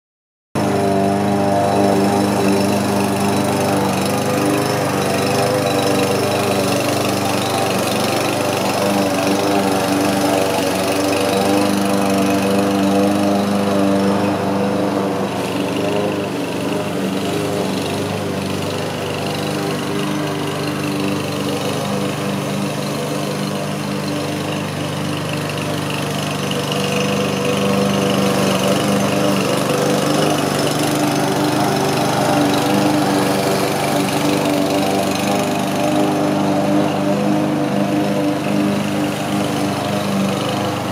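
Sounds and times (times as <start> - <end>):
lawn mower engine cutting grass: 0.6 - 40.9.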